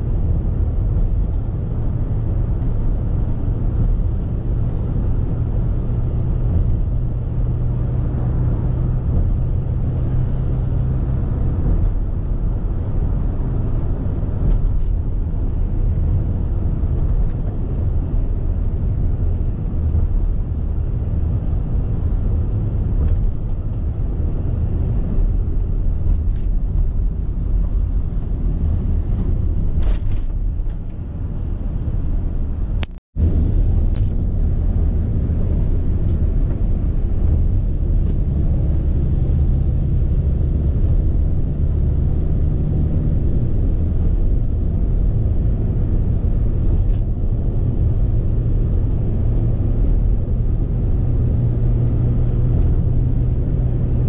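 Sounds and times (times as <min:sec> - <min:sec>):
road and wind noise in car: 0:00.0 - 0:54.0.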